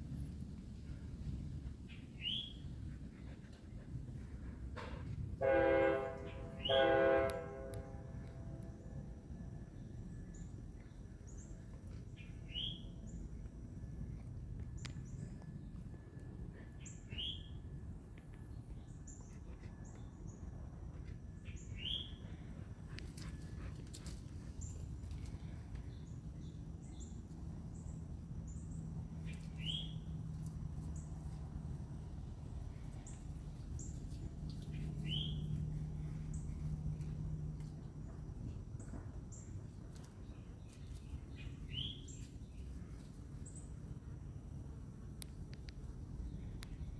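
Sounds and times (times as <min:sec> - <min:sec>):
steady low rumble: 0:00.0 - 0:46.9.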